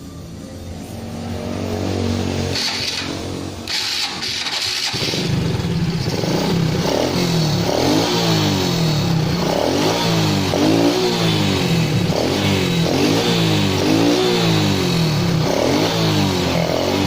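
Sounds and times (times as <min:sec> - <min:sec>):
motorcycle engine revving: 0:00.4 - 0:17.0.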